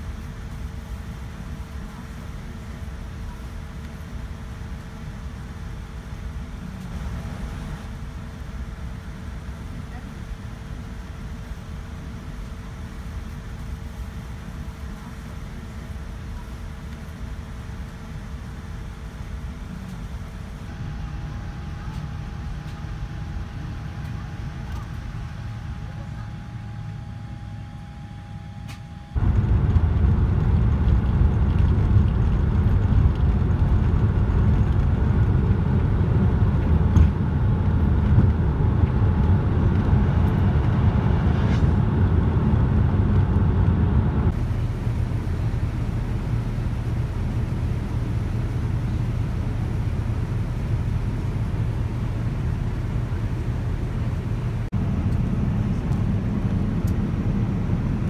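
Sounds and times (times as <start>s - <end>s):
airliner cabin hum: 0.0s - 58.0s
jet engines roaring: 4.1s - 58.0s.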